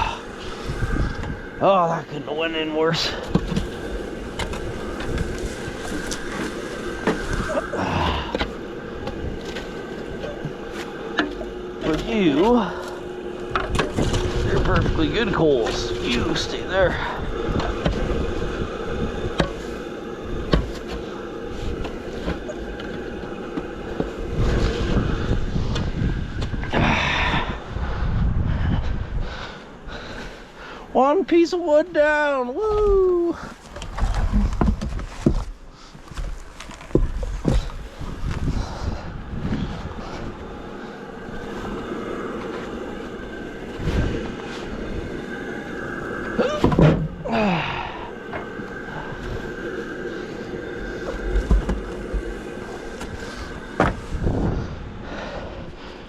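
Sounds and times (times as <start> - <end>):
boiler rumbling: 0.0 - 56.0
faint constant whine: 0.0 - 56.0
faint hum: 0.0 - 56.0.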